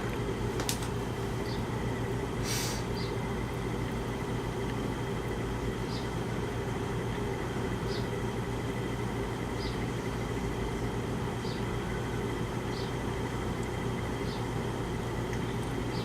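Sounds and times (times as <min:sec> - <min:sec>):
air conditioner hum and airflow: 0:00.0 - 0:16.0.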